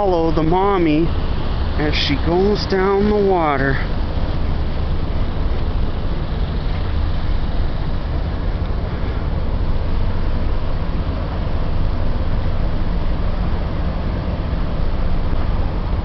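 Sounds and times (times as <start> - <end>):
low diesel engine drone: 0.0 - 16.0.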